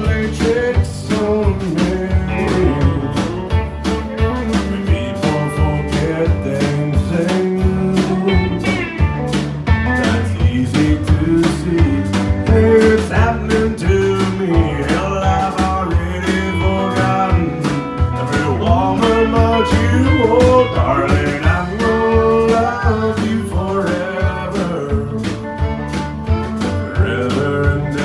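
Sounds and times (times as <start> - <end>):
man singing: 0.0 - 9.0, 9.7 - 25.7, 26.6 - 28.0
country band playing: 0.0 - 28.0.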